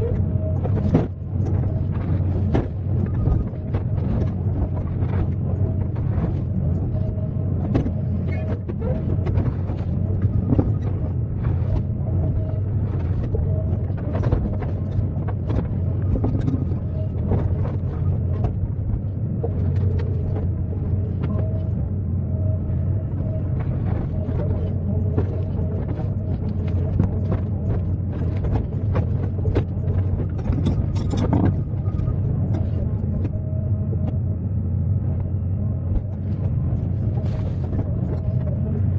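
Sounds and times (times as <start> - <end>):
excavator engine rumbling: 0.0 - 38.9.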